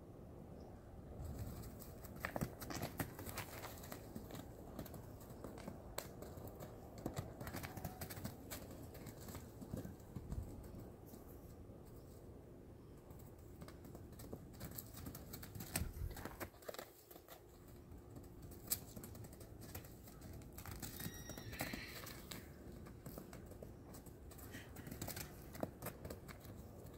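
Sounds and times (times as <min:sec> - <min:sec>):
hooves thudding on grass: 0:01.3 - 0:12.0, 0:13.0 - 0:26.9.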